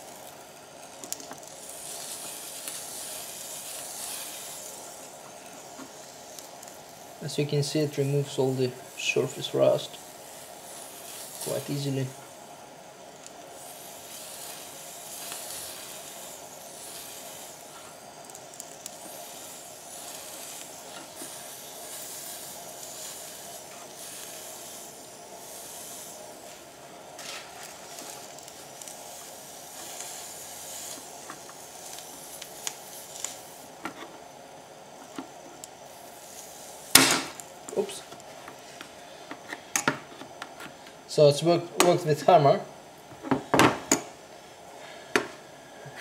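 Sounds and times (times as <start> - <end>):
electro-polishing wand sizzling: 0.0 - 39.2.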